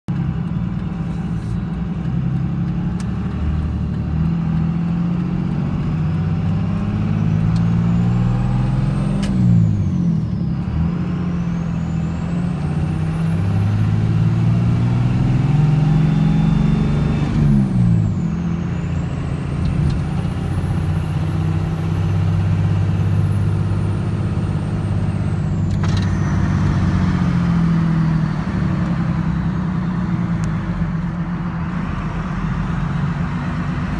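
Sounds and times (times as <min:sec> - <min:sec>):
diesel engine under load: 0:00.1 - 0:33.9.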